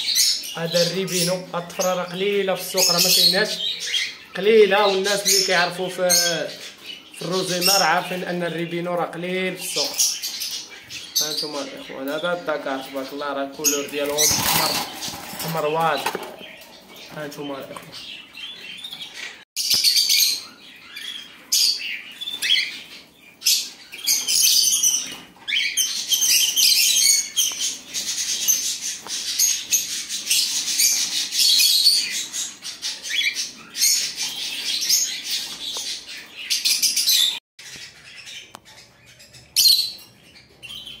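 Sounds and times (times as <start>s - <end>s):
cage birds chirping and twittering: 0.0s - 41.0s.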